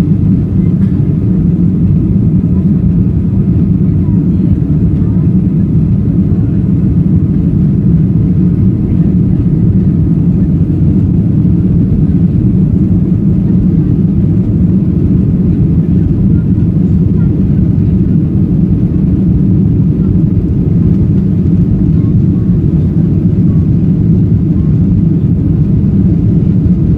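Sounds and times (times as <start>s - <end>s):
airplane cabin engine roar: 0.0s - 26.9s.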